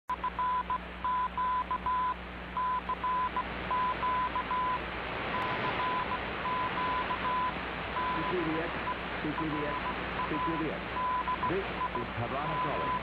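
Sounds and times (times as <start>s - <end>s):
low hum: 0.1s - 13.0s
morse code beeps: 0.1s - 13.0s
shortwave static hiss: 0.1s - 13.0s.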